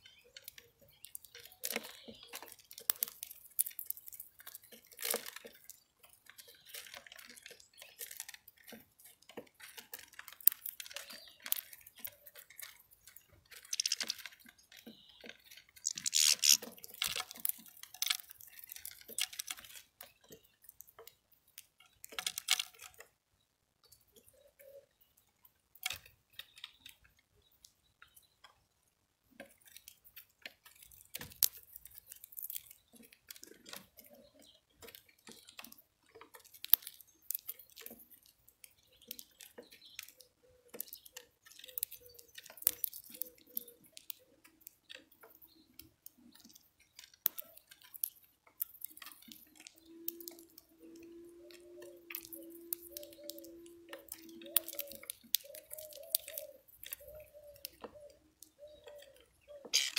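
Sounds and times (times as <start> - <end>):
birds pecking and cracking seed: 0.0 - 59.9.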